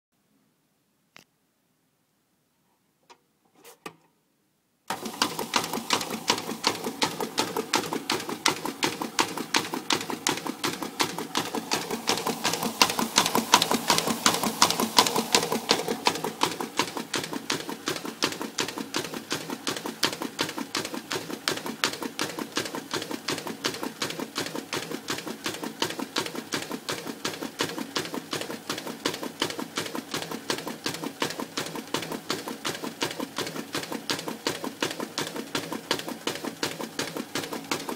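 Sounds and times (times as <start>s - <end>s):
paper folding machine clattering: 4.9s - 37.9s.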